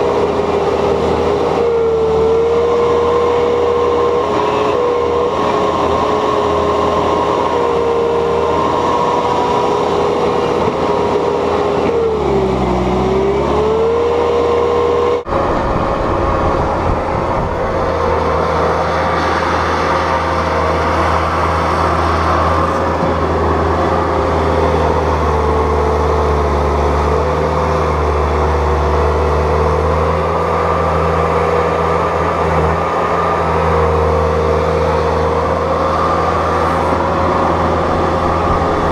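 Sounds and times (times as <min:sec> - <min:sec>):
diesel engine droning: 0:00.0 - 0:38.9
hydraulic whine: 0:00.0 - 0:38.9.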